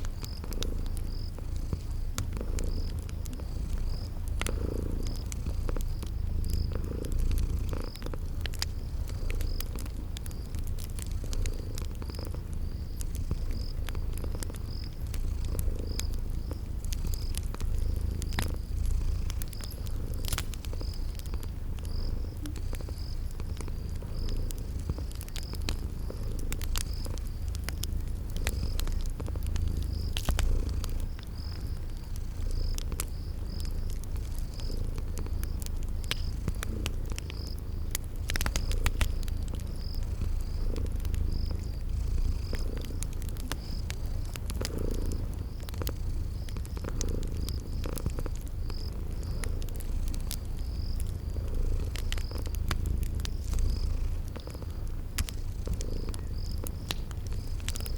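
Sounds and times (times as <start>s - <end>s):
cat purring: 0.0s - 57.9s
crickets chirping: 0.0s - 57.9s
wood fire crackling: 0.0s - 57.9s.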